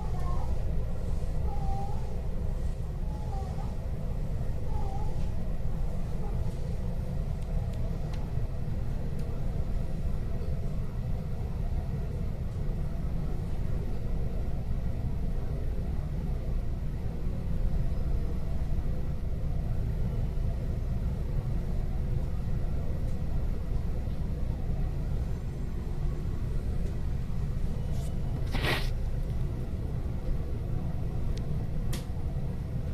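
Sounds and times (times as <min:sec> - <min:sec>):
train car low rumble: 0:00.0 - 0:32.9.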